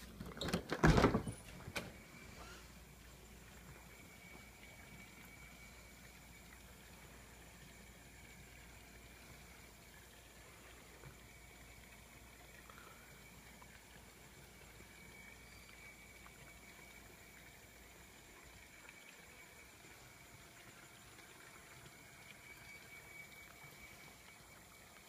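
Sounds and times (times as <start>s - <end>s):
faint steady high hum: 0.0s - 25.0s.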